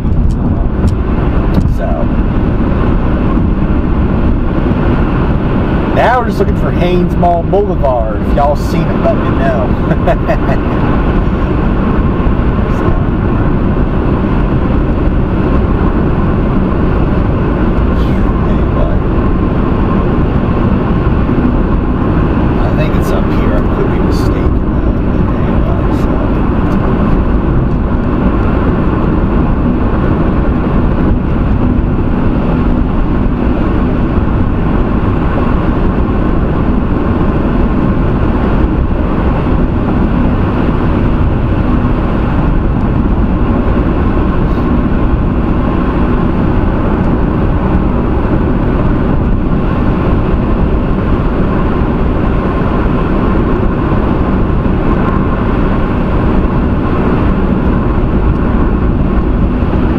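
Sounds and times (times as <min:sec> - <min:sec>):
car road and engine drone: 0:00.0 - 0:59.9.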